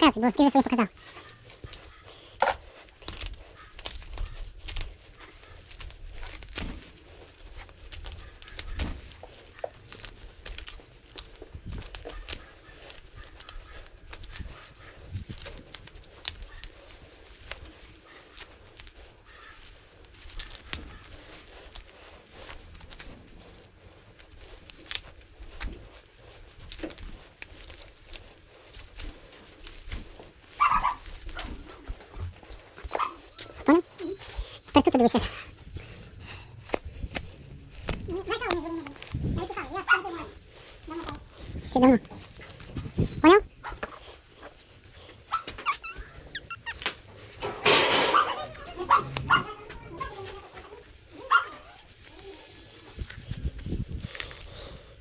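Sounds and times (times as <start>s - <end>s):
tools scraping meat and bone: 0.9s - 54.6s.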